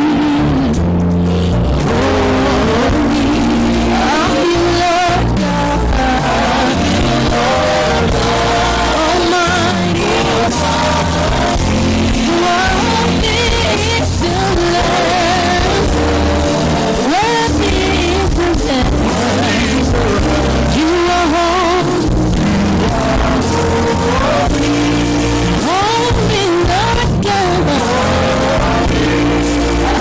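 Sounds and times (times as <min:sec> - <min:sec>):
person singing: 0:00.0 - 0:00.8, 0:01.4 - 0:30.0
steady bass line: 0:00.0 - 0:30.0.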